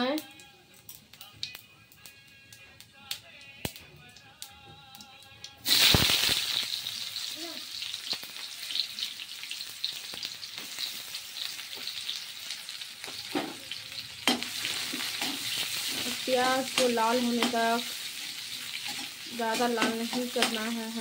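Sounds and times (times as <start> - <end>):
onions sizzling in hot oil: 0.0 - 2.2, 5.4 - 21.0.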